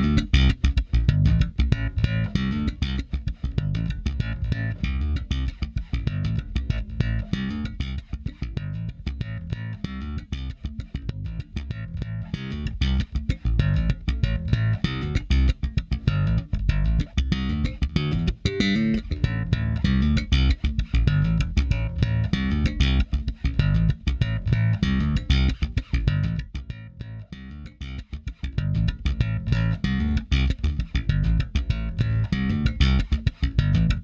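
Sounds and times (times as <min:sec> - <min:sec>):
bass guitar plucked notes: 0:00.0 - 0:34.0.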